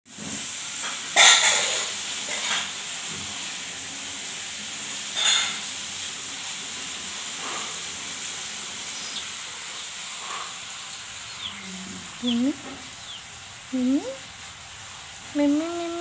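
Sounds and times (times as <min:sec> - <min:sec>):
steady background hiss: 0:00.2 - 0:16.0.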